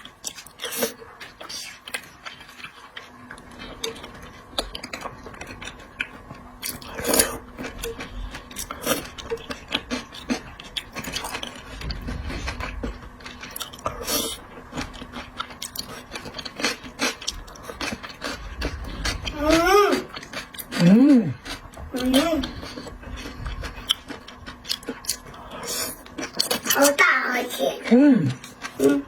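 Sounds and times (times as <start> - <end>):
person chewing crunchy food: 0.0 - 27.0, 28.3 - 29.0.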